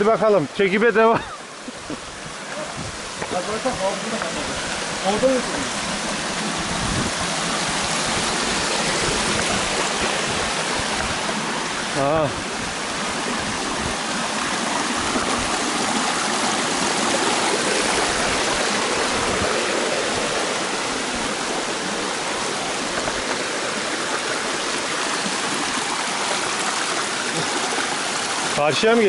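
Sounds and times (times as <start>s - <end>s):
creek rushing over rocks: 0.0s - 29.0s.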